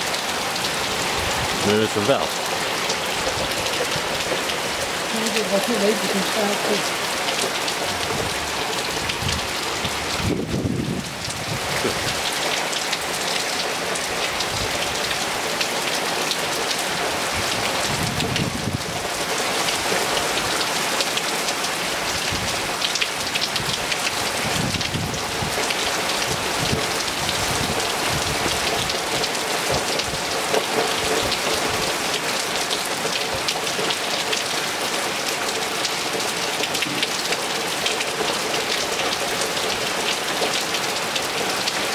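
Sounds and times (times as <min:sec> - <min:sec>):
hard rain on paving and pool: 0:00.0 - 0:41.9.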